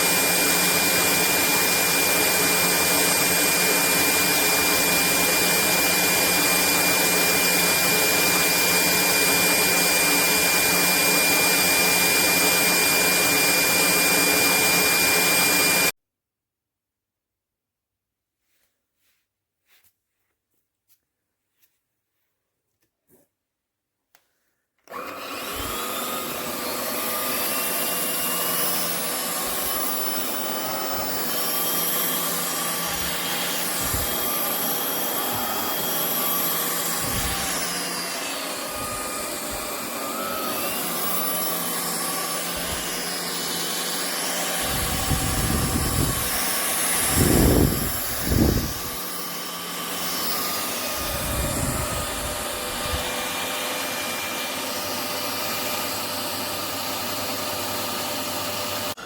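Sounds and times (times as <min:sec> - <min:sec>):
stick vacuum running: 0:00.0 - 0:15.9, 0:24.8 - 0:59.0.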